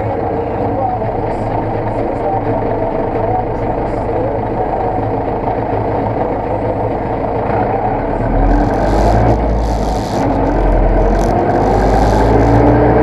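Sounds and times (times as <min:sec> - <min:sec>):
deep rumble: 0:00.0 - 0:13.0
tractor diesel engine running: 0:00.0 - 0:13.0.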